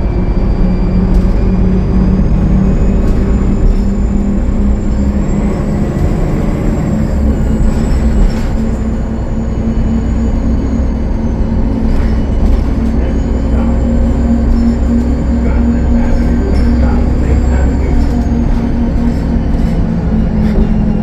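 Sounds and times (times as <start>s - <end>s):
bus diesel engine droning: 0.0s - 21.0s.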